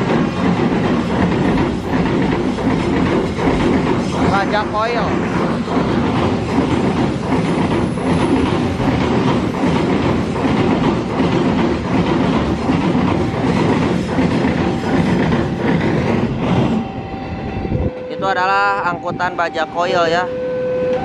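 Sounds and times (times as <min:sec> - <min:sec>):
train wheels clattering on rail joints: 0:00.0 - 0:16.9
freight train passing: 0:00.0 - 0:21.0.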